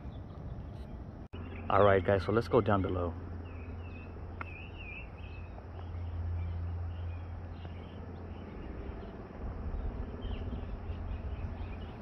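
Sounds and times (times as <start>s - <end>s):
low steady rumble: 0.0s - 12.0s
small birds chirping: 0.0s - 12.0s.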